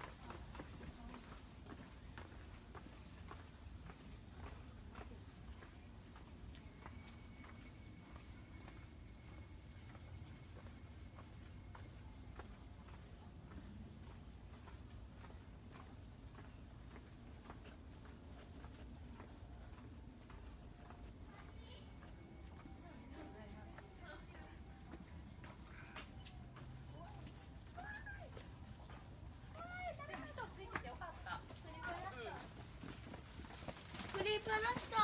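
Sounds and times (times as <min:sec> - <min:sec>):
insects chirring: 0:00.0 - 0:35.0
soft footsteps: 0:00.0 - 0:35.0.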